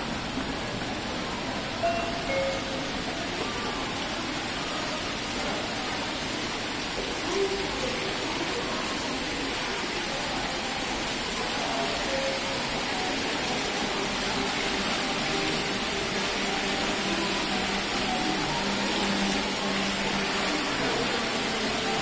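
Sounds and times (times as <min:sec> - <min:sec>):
faint voices: 0:00.0 - 0:22.0
water rushing down stone cascade: 0:00.0 - 0:22.0.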